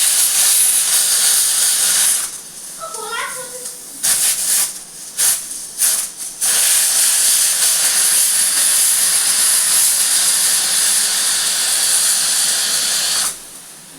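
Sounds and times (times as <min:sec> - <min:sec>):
pressure cooker whistle hissing: 0:00.0 - 0:02.4, 0:04.0 - 0:13.6.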